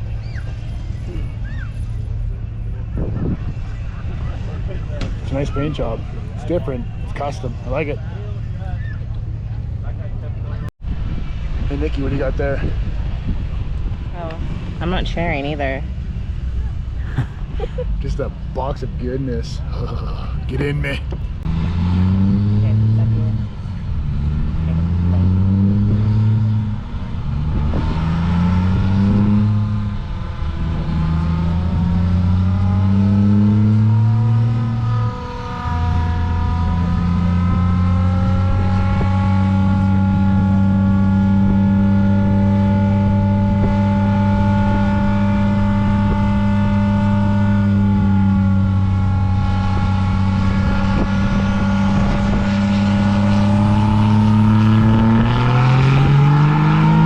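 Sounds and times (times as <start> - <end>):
vehicle engine accelerating: 0.0 - 57.0.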